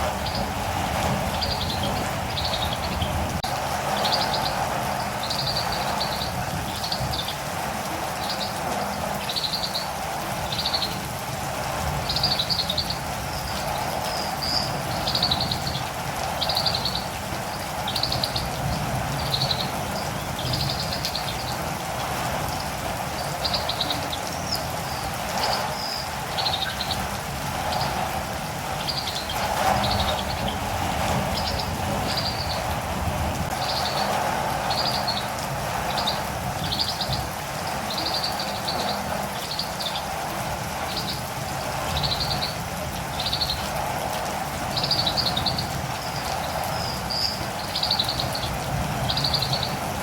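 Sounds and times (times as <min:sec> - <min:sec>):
steady rain: 0:00.0 - 0:50.0.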